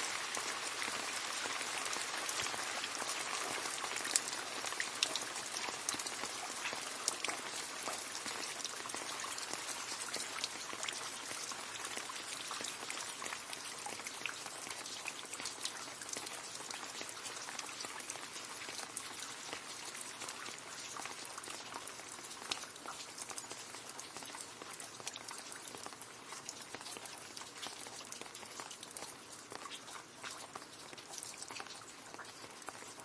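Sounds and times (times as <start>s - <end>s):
rain splashing into puddle: 0.0s - 33.0s.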